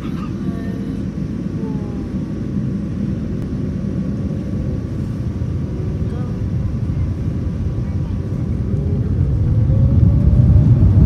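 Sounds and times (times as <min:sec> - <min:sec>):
airliner cabin low rumble: 0:00.0 - 0:11.0.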